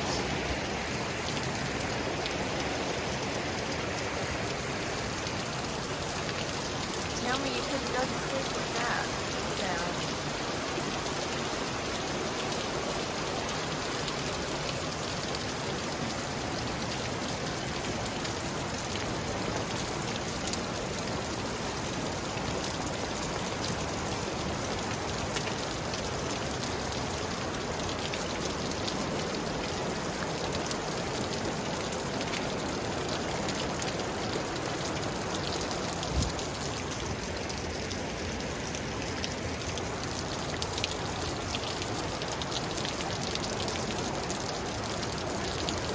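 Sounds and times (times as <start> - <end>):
waterfall and creek rushing: 0.0 - 45.9.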